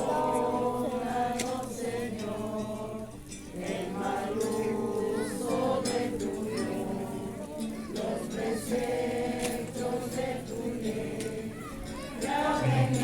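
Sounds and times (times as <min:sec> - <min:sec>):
group of people singing: 0:00.0 - 0:13.0.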